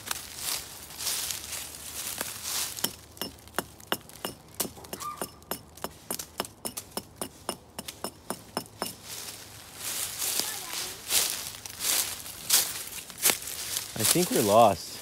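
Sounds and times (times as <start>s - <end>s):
footsteps crunching dry leaves: 0.0s - 6.4s, 7.4s - 15.0s
twigs crackling underfoot: 0.0s - 15.0s.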